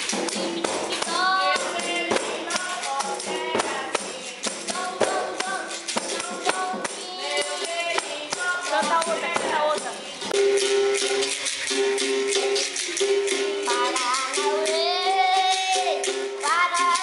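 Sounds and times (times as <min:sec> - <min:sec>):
child singing: 0:00.0 - 0:10.3, 0:13.3 - 0:17.0
basket rattle shaking: 0:00.0 - 0:17.0.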